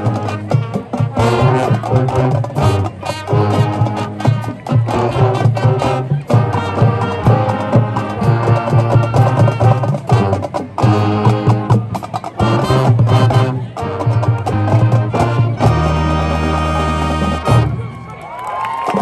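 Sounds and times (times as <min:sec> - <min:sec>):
drumline beat: 0:00.0 - 0:19.0
marching band brass: 0:00.0 - 0:19.0.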